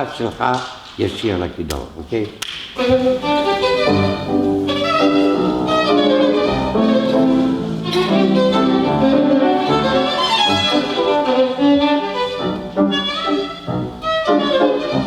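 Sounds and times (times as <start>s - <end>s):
violin playing classical melody: 2.8s - 15.0s.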